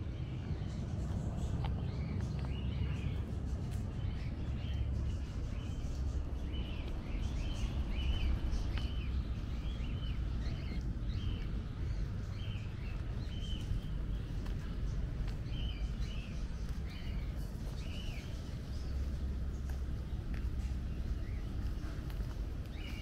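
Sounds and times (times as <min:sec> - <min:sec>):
low background rumble: 0:00.0 - 0:23.0
small birds chirping: 0:00.0 - 0:23.0.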